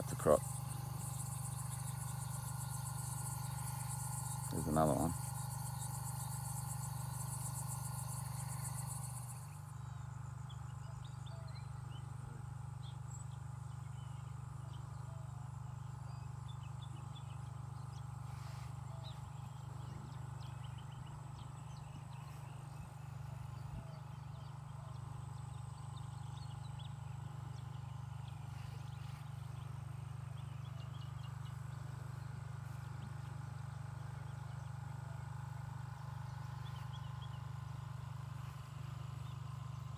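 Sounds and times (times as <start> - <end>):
crickets chirping: 0.0 - 12.2, 12.8 - 39.9
faint bird chirps: 0.0 - 39.9
steady low hum: 0.0 - 39.9.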